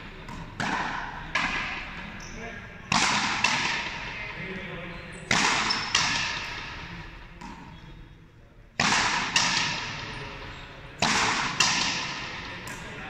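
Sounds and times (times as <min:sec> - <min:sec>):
ball hitting racket and wall: 0:00.0 - 0:02.2, 0:02.9 - 0:04.3, 0:05.2 - 0:07.8, 0:08.8 - 0:13.0.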